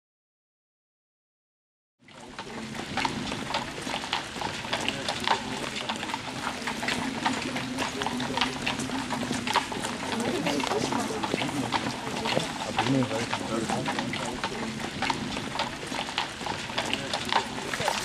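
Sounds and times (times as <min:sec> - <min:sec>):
people's voices: 0:02.4 - 0:18.0.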